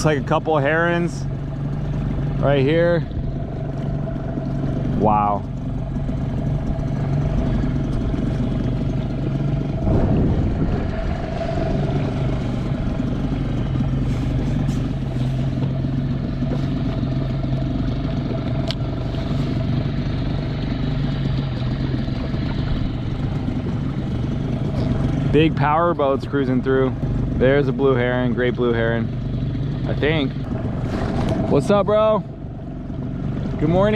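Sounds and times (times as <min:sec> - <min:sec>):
outboard motor droning: 0:00.0 - 0:33.9
rush of wind or water: 0:00.0 - 0:33.9.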